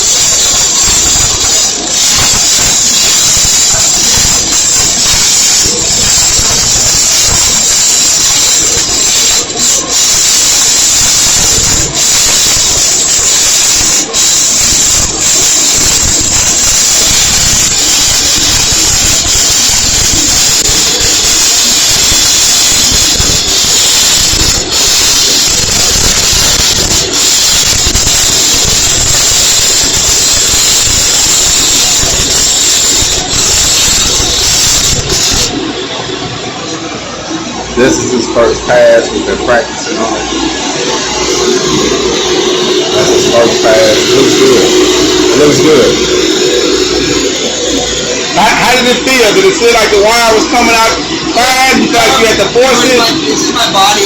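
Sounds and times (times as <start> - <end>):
welding arc hissing: 0.0 - 54.0.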